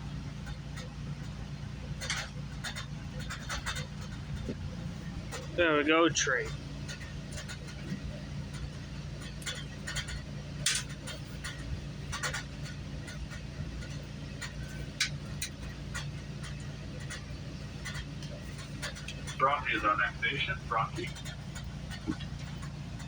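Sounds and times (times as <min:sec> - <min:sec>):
train drone inside coach: 0:00.0 - 0:23.0
clicks and rattles: 0:00.4 - 0:23.0.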